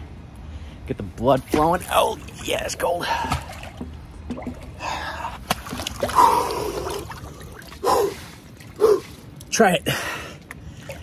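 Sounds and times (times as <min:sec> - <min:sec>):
water sloshing and trickling: 0:01.2 - 0:11.0.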